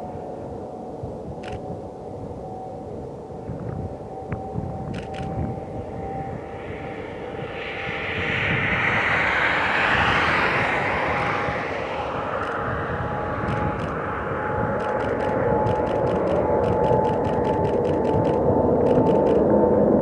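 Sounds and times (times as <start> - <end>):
jet engines roaring: 0.0 - 20.0
thin steady whine: 0.0 - 20.0.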